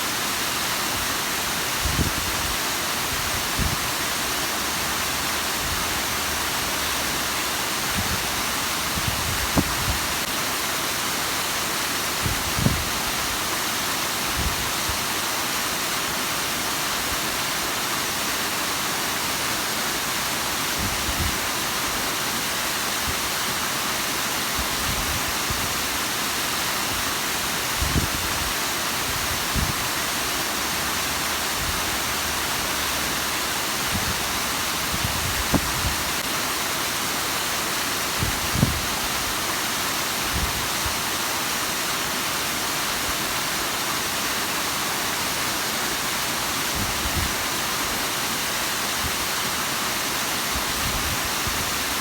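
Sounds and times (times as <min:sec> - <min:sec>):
waterfall rushing over rock: 0:00.0 - 0:52.0.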